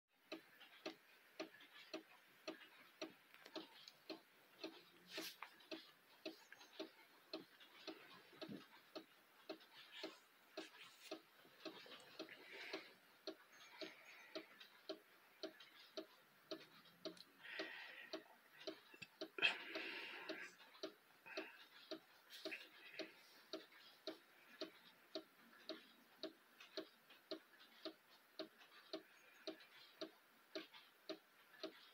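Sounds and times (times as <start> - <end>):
clock ticking softly: 0.1 - 31.9.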